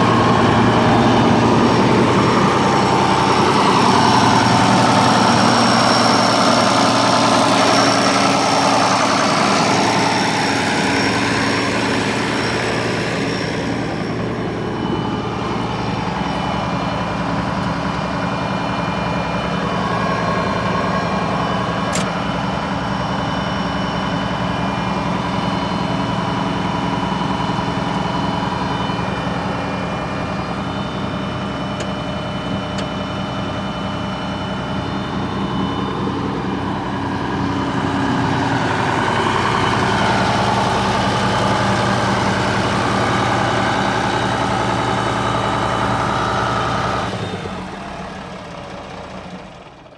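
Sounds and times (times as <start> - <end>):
tractor diesel engine idling: 0.0 - 49.9.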